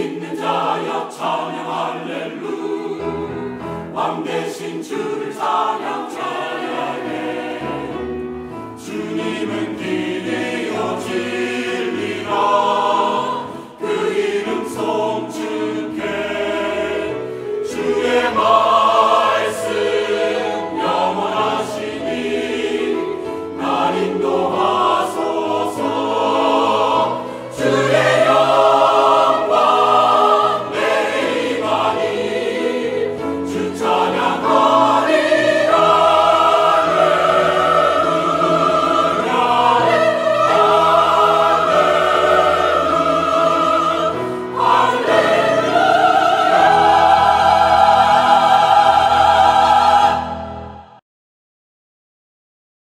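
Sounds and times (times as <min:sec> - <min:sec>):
mixed choir singing an anthem: 0:00.0 - 0:51.0.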